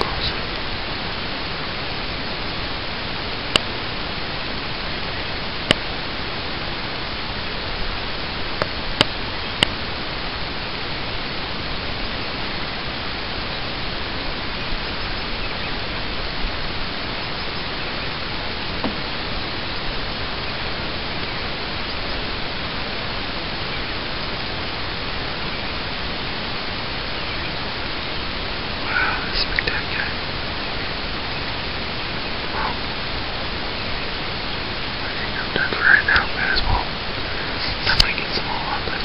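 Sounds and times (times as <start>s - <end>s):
camera recording hiss: 0.0s - 39.0s.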